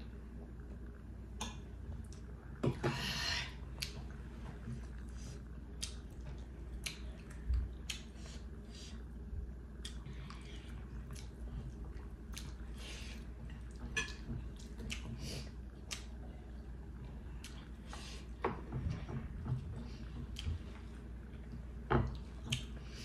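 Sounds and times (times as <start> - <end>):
people chewing wetly: 3.6 - 23.0.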